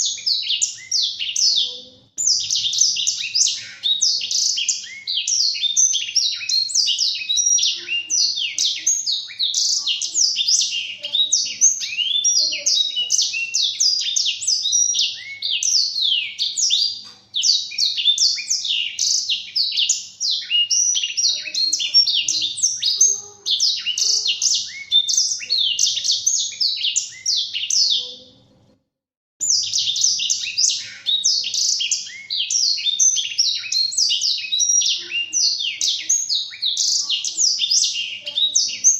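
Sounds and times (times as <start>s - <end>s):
bird singing fast twittering song: 0.0s - 28.2s, 29.4s - 38.9s.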